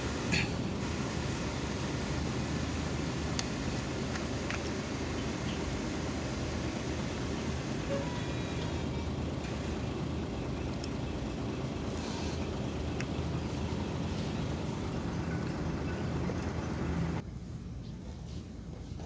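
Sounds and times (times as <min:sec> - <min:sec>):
engine droning: 0:00.0 - 0:17.8.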